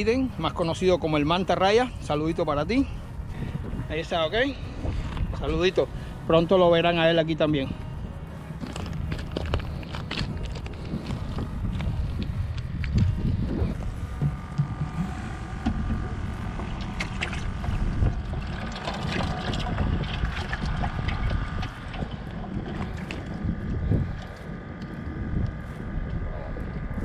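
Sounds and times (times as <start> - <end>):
faint high hum: 0.0 - 27.0
wind buffeting microphone: 0.0 - 27.0.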